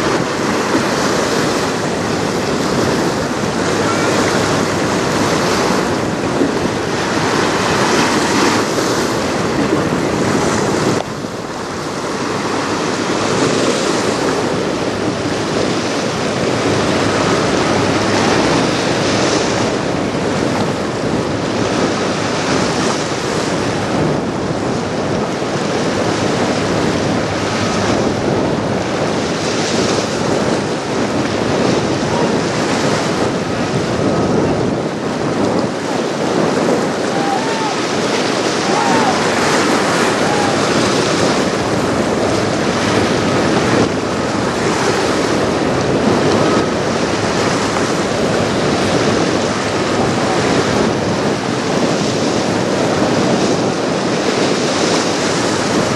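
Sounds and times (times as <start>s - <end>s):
waves washing: 0.0s - 55.9s
wind buffeting microphone: 0.0s - 55.9s.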